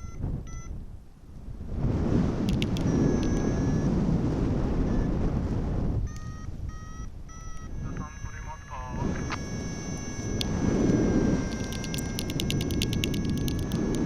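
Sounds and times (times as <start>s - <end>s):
variometer short beeps: 0.0s - 0.8s, 2.5s - 4.0s, 4.7s - 14.0s
wind rushing over microphone: 0.0s - 14.0s.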